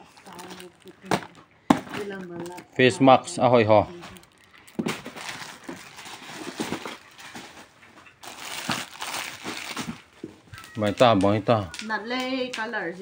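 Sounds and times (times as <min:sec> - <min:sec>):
plastic wrapping crinkling: 0:00.0 - 0:12.6.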